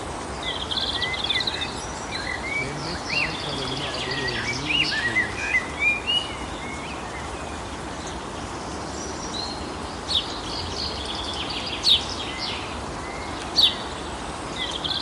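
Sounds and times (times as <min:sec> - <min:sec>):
outdoor hiss: 0:00.0 - 0:15.0
songbirds chirping: 0:00.0 - 0:15.0.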